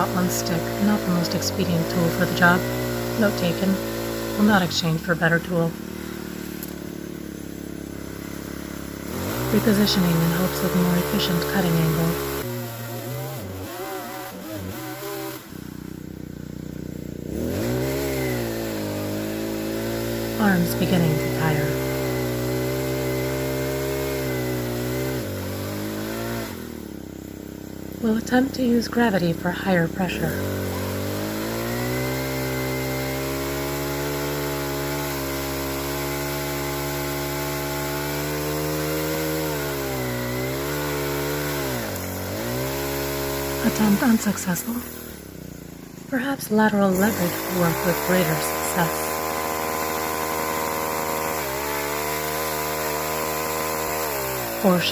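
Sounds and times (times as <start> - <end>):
small chainsaw motor wavering: 0.0 - 54.9.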